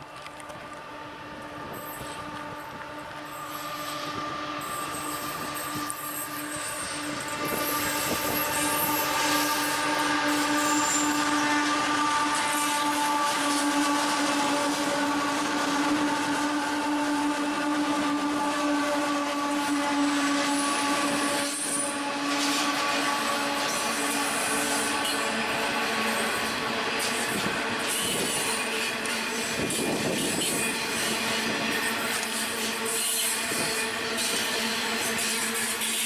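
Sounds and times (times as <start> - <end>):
diesel locomotive engines whining: 0.0 - 36.0
train rumble and wheel noise: 0.0 - 36.0.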